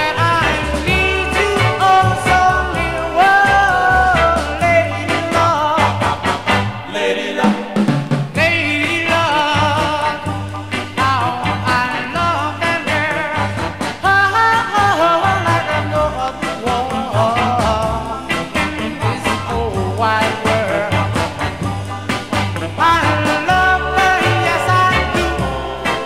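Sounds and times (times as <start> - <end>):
doo-wop record playing: 0.0 - 26.0
steady drum beat: 0.0 - 26.0.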